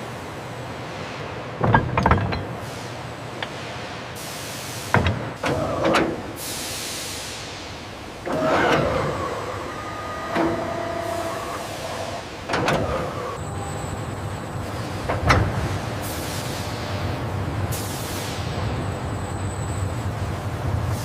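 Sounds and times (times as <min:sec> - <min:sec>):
industrial background noise: 0:00.0 - 0:21.0.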